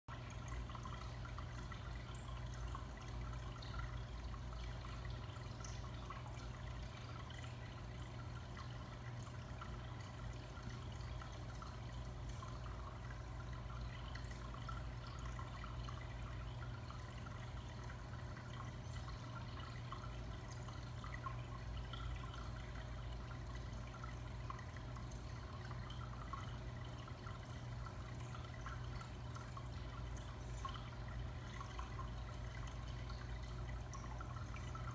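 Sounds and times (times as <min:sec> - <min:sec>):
aquarium filter hum: 0:00.1 - 0:34.9
water trickling and dripping: 0:00.1 - 0:34.9.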